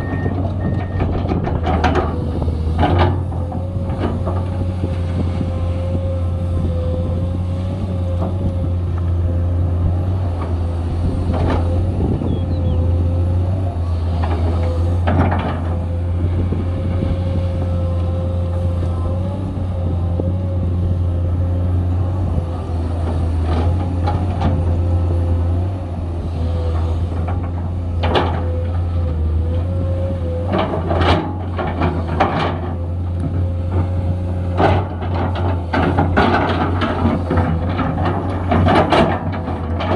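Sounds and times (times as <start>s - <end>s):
excavator diesel engine whine: 0.0s - 39.9s.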